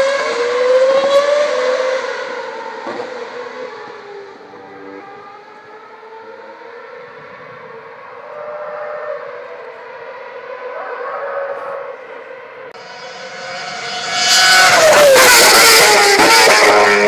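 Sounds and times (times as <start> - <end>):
distant racing car engine: 0.0 - 17.0.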